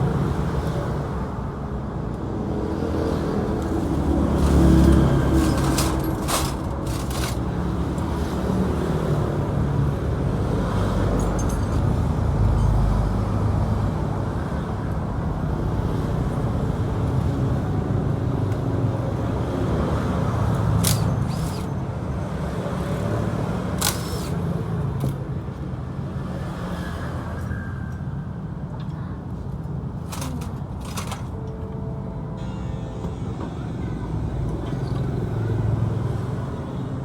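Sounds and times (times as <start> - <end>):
road and traffic noise: 0.0 - 37.0.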